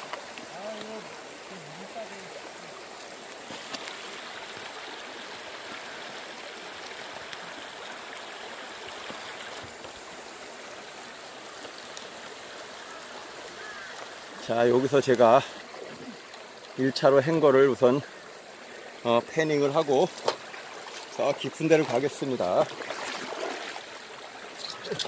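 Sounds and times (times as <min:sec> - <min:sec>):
river water rippling over rocks: 0:00.0 - 0:25.0.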